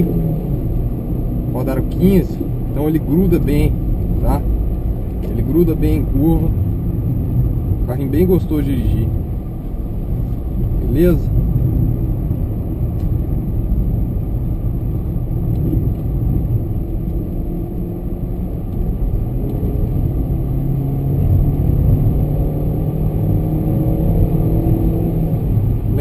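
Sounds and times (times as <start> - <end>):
car engine running: 0.0 - 26.0
road and tyre rumble: 0.0 - 26.0.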